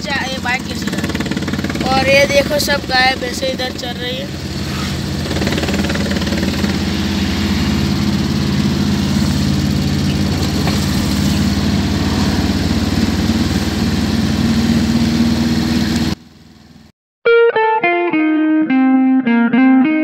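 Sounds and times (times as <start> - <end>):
road noise: 0.0 - 16.9
vehicle engine running: 0.0 - 16.9.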